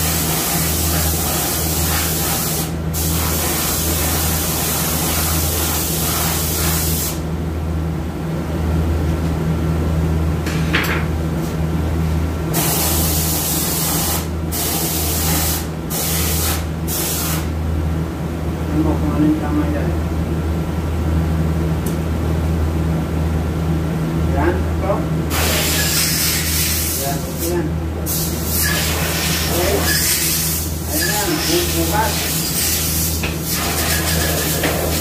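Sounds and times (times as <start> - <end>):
low machine hum: 0.0 - 25.6, 26.5 - 35.0.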